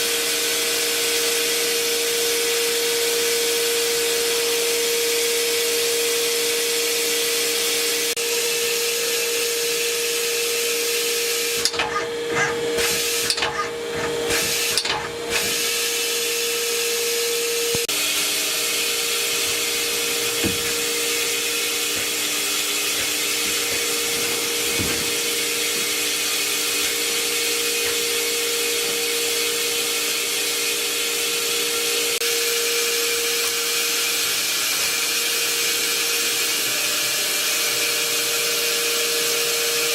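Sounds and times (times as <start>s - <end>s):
lathe humming with hiss: 0.0s - 39.9s.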